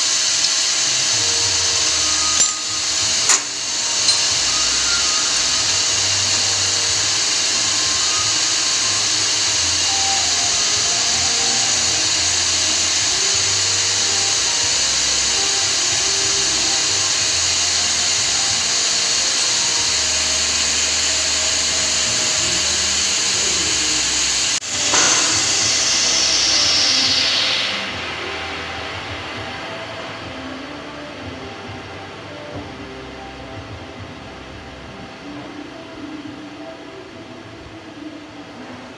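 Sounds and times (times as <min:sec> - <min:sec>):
machine hissing: 0:00.0 - 0:37.2.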